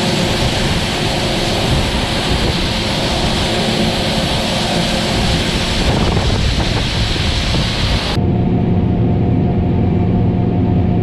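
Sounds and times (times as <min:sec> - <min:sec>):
combine harvester engine running: 0:00.0 - 0:11.0
wind buffeting microphone: 0:00.0 - 0:11.0.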